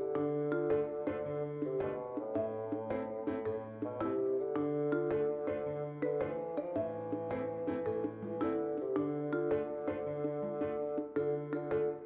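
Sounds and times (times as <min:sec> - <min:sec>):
gentle background music: 0:00.0 - 0:12.0.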